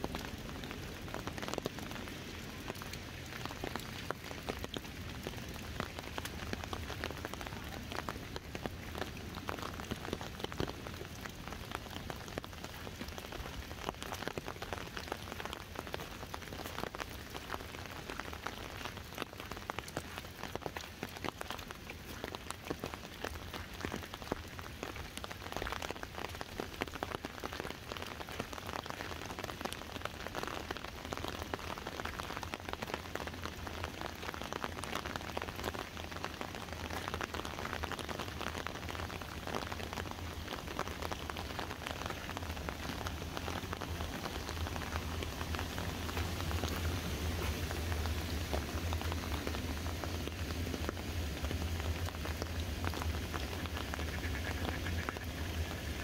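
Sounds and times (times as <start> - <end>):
rain on an umbrella: 0.0 - 56.0.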